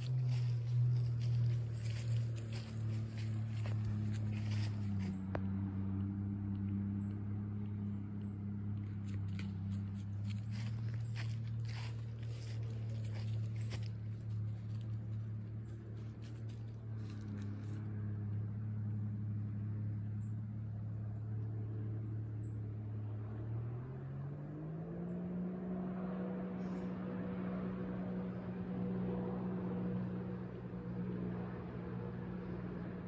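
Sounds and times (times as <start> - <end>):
motor engine humming: 0.0 - 33.0.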